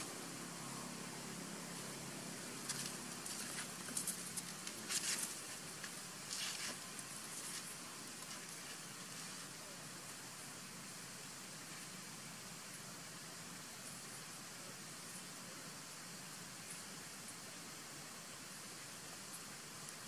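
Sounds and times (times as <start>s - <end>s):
rustling in dry leaves: 0.0s - 20.0s
steady background hiss: 0.0s - 20.0s.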